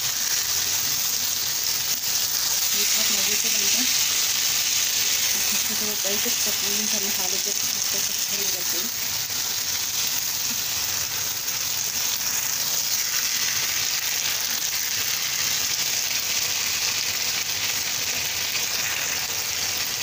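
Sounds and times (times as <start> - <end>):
potatoes sizzling in oil: 0.0 - 20.0.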